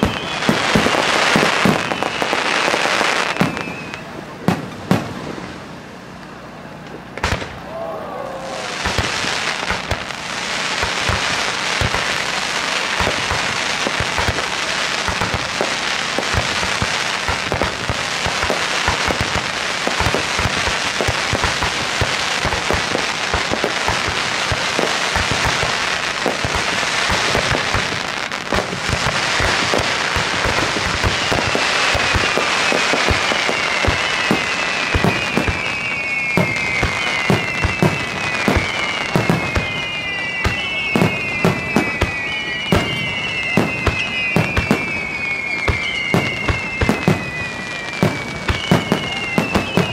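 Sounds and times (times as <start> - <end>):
falling firework whistles: 0.0 - 5.8, 7.0 - 49.9
fireworks bangs and crackling: 0.0 - 49.9.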